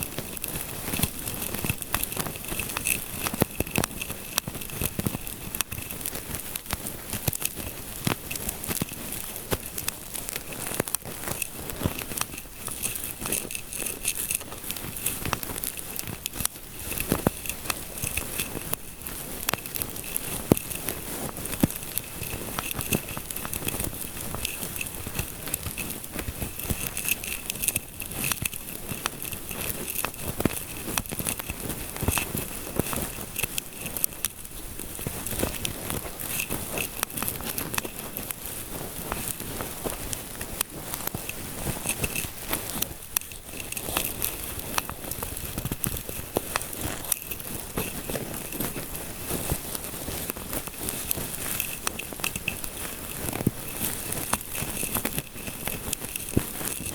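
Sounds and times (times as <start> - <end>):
scalp scratching and rubbing: 0.0 - 56.9.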